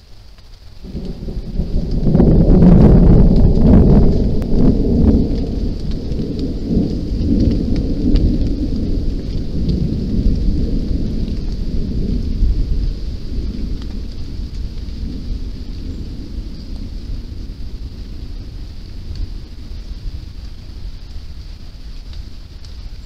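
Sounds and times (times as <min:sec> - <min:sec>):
thunder rumbling: 0:00.0 - 0:23.0.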